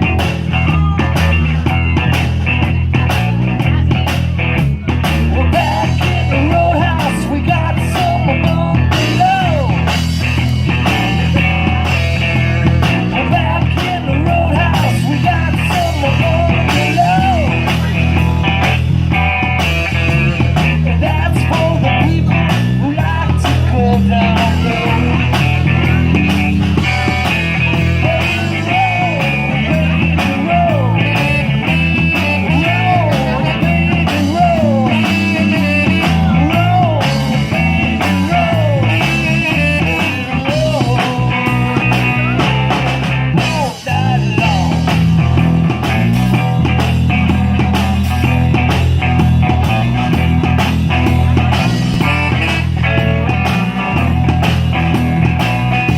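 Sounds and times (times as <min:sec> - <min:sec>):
live blues-rock band: 0:00.0 - 0:55.9
sliding lead melody: 0:00.0 - 0:55.9.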